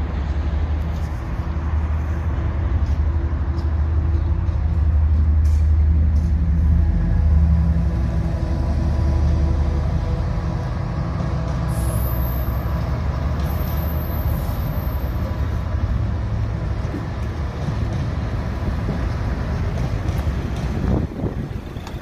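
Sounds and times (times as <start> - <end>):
diesel locomotive engine drone: 0.0 - 22.0
rumble of train wheels: 0.0 - 22.0.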